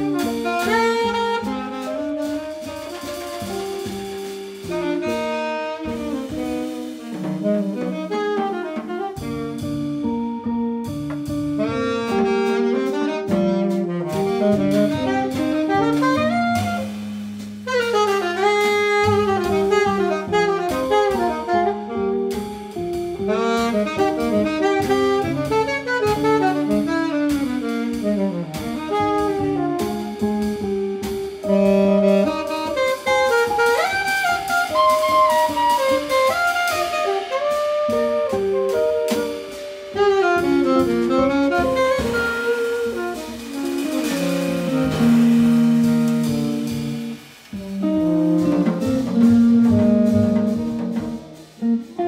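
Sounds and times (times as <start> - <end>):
alto saxophone: 0.0 - 52.0
drum kit with cymbals: 0.0 - 52.0
walking double bass: 0.0 - 52.0.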